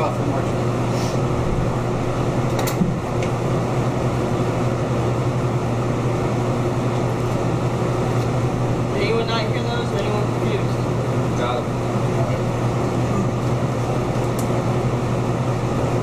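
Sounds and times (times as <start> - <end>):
ventilation fan humming: 0.0 - 16.0.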